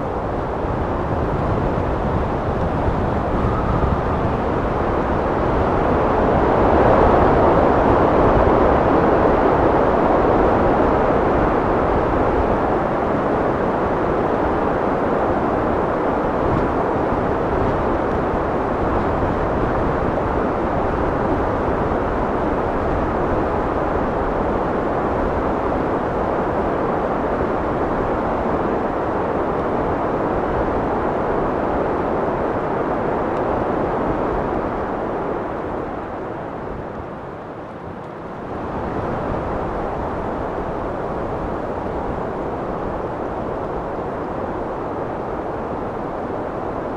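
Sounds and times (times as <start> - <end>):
wind blowing: 0.0 - 46.9.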